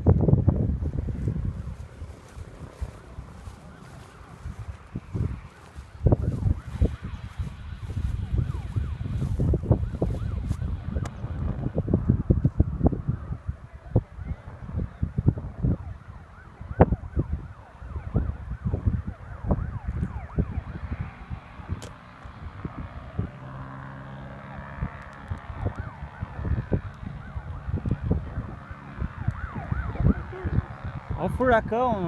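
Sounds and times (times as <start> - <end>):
engine drone: 0.0 - 31.4
gusty wind buffeting microphone: 0.0 - 32.0.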